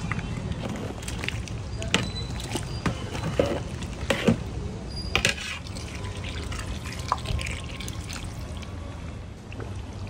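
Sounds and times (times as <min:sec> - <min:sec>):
metal ladle stirring curry: 0:00.0 - 0:08.5
liquid sloshing: 0:00.0 - 0:08.8.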